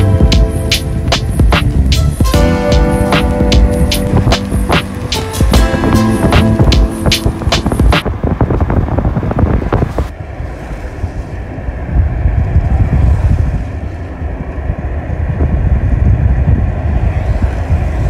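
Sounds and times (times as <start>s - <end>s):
road noise rumble: 0.0s - 18.0s
wind buffeting microphone: 0.0s - 18.0s.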